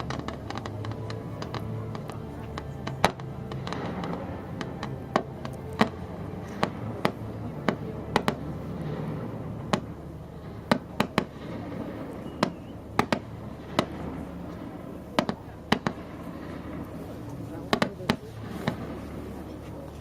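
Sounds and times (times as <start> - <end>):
fireworks bangs: 0.0 - 19.8.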